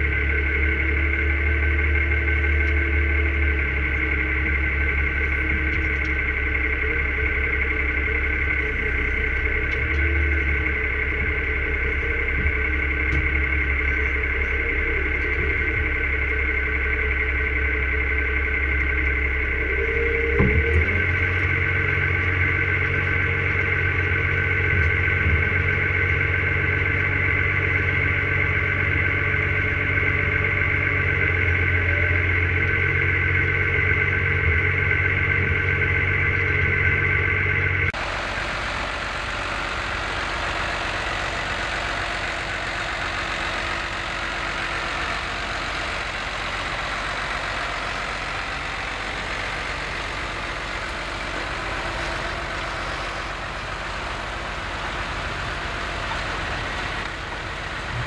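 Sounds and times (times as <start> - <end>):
tractor engine humming: 0.0 - 58.0
tractor pulling plough through soil: 0.0 - 58.0.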